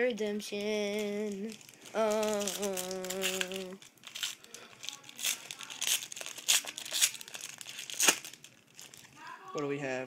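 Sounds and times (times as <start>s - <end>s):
foil wrapper crinkling: 0.6s - 9.3s.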